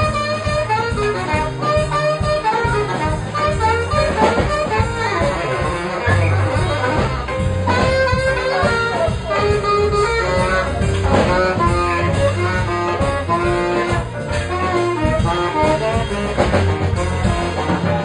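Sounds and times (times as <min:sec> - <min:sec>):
jazz band playing blues: 0:00.0 - 0:18.0
saxophones: 0:00.0 - 0:18.0.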